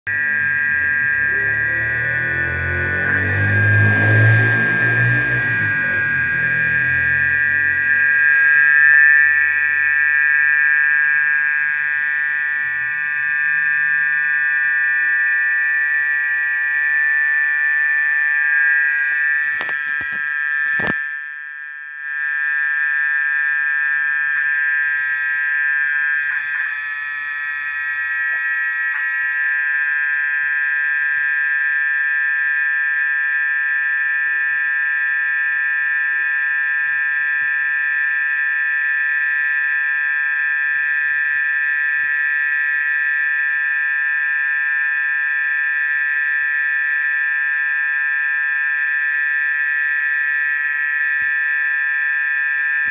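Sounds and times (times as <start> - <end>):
high-pitched drone: 0.1 - 52.9.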